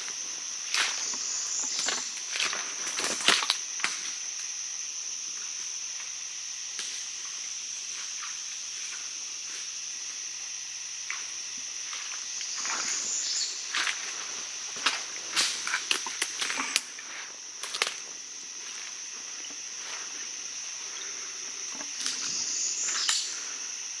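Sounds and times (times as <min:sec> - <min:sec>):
insect chorus droning: 0:00.0 - 0:24.0.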